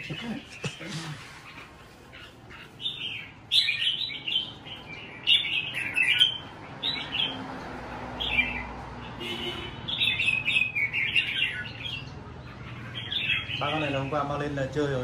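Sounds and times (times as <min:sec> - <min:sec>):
birds singing warbling phrases: 0:00.0 - 0:15.0.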